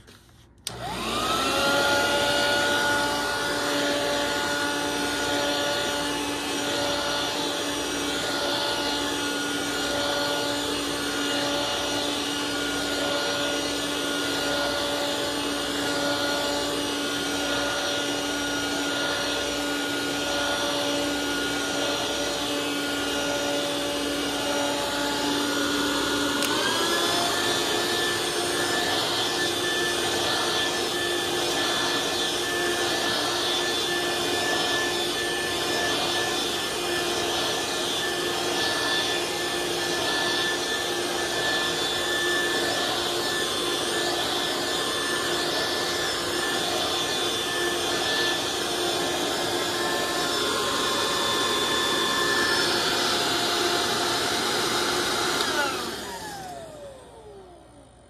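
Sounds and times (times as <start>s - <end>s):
vacuum pushed over carpet: 0.0s - 57.9s
vacuum cleaner motor whining: 0.0s - 58.0s.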